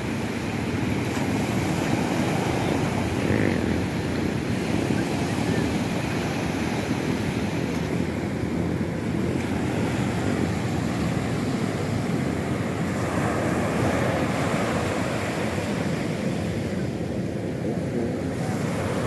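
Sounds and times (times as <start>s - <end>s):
surf washing on shore: 0.0s - 19.0s.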